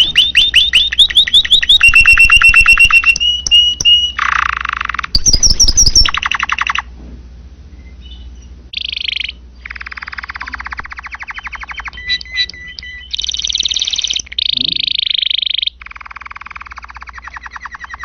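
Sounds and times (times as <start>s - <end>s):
canary singing trills: 0.0s - 6.9s, 7.7s - 18.0s.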